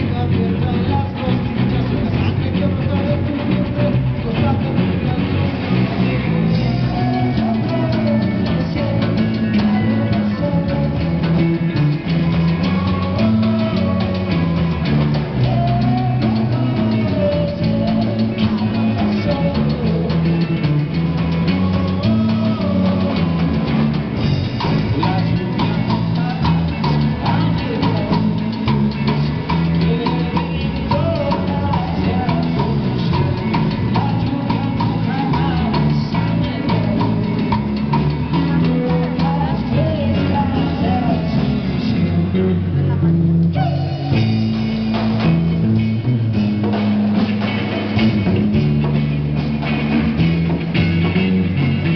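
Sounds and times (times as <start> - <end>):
drum kit: 0.0 - 51.9
electric guitars: 0.0 - 51.9.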